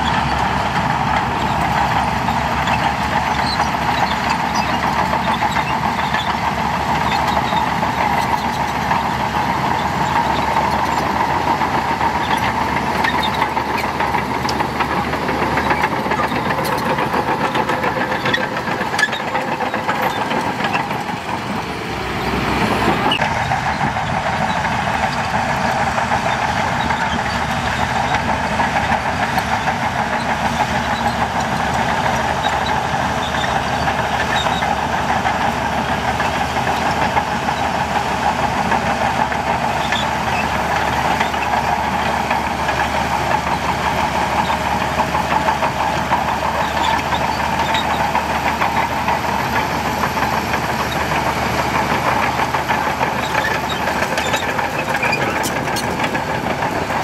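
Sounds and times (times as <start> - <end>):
bulldozer diesel engine running: 0.0 - 57.0
steel tracks clanking: 0.0 - 57.0.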